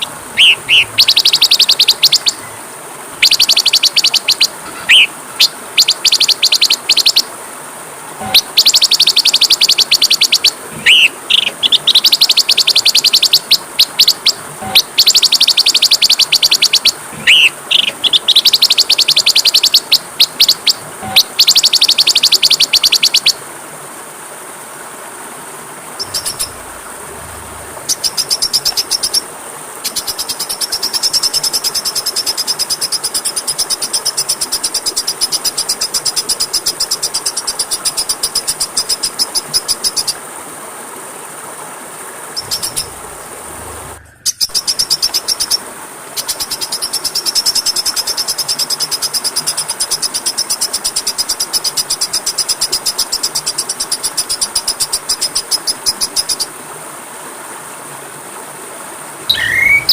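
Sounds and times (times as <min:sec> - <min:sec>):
songbird trilling: 0:00.0 - 0:02.6, 0:03.2 - 0:07.3, 0:08.2 - 0:23.4, 0:26.0 - 0:29.2, 0:29.8 - 0:40.2, 0:42.4 - 0:45.6, 0:46.2 - 0:56.5, 0:59.3 - 0:59.9
steady hiss: 0:00.0 - 0:59.9.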